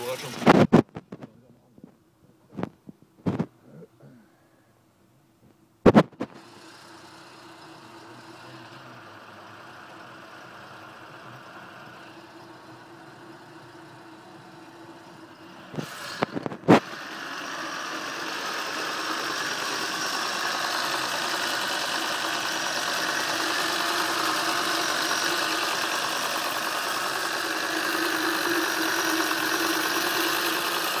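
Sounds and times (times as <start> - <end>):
car engine idling: 0.0 - 0.5, 6.4 - 31.0.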